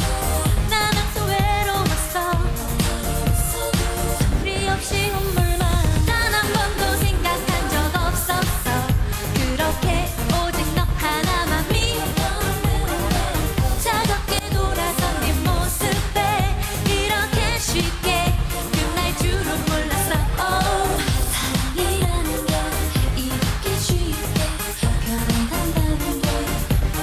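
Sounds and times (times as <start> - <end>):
dance backing track with beat: 0.0 - 27.0
woman singing pop song: 0.0 - 27.0.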